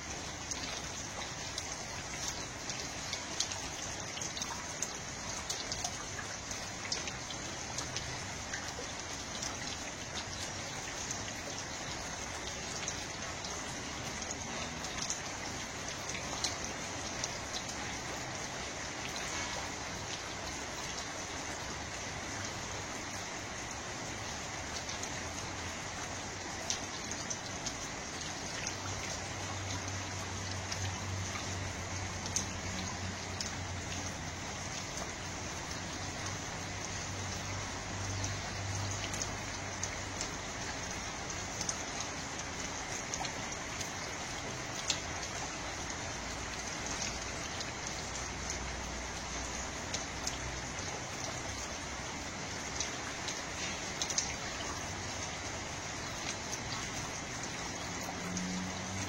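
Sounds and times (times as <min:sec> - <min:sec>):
raindrops ticking: 0:00.0 - 0:59.0
steady rain falling: 0:00.0 - 0:59.0.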